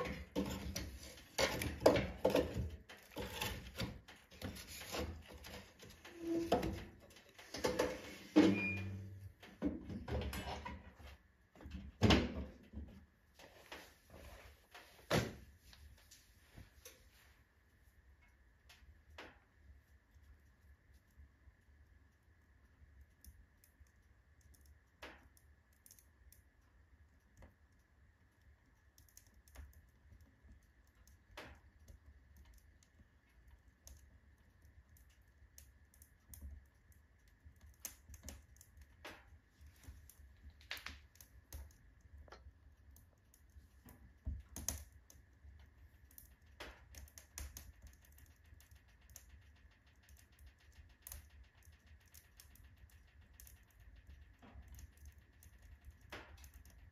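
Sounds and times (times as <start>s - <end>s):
firewood crackling in stove: 0.0s - 56.9s.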